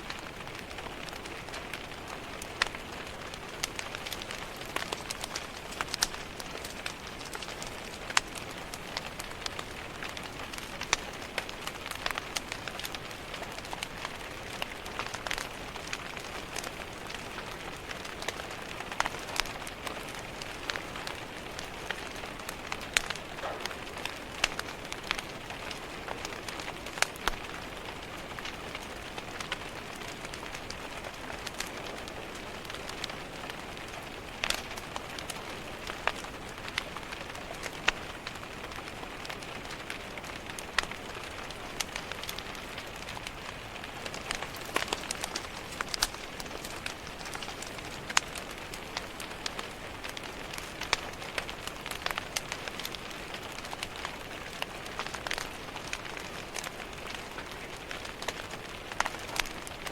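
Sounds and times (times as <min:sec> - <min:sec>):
rain pattering on a window: 0:00.0 - 0:59.9
wood fire crackling and popping: 0:00.0 - 0:59.9.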